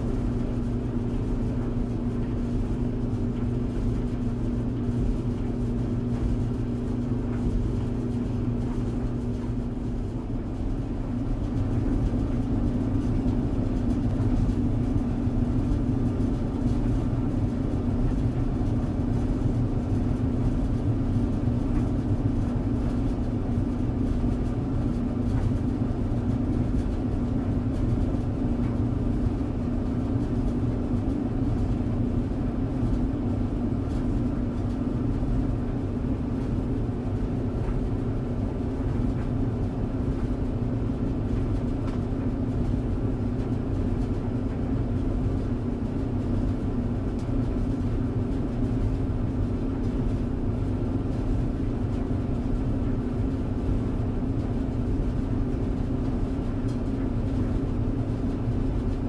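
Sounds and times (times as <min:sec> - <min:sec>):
tumble dryer running: 0:00.0 - 0:59.0.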